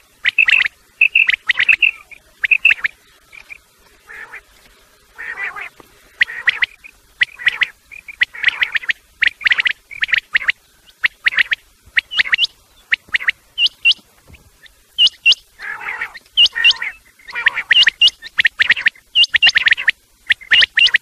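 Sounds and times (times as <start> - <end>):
quail calls: 0.0 - 4.5, 5.2 - 21.0.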